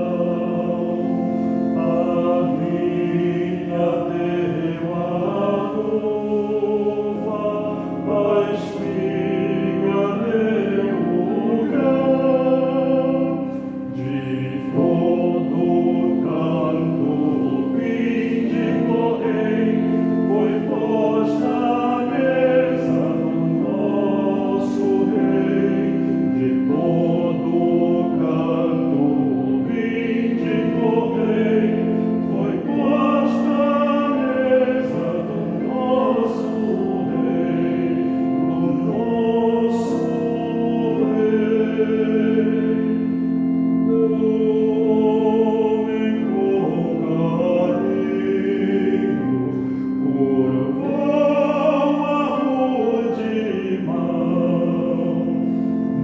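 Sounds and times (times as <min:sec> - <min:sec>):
choir singing a hymn: 0:00.0 - 0:56.0
sustained accompaniment: 0:00.0 - 0:56.0.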